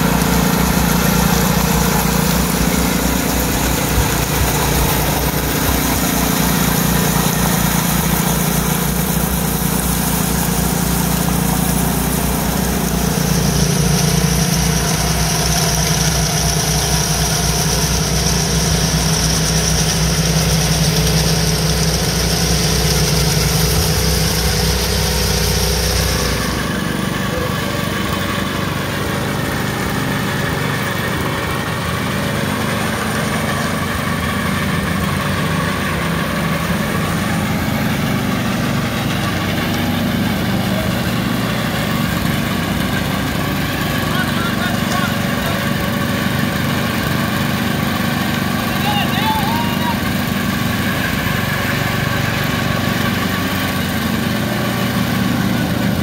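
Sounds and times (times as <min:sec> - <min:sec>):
power trowel engine humming: 0:00.0 - 0:56.0
several trowels running farther off: 0:00.0 - 0:56.0.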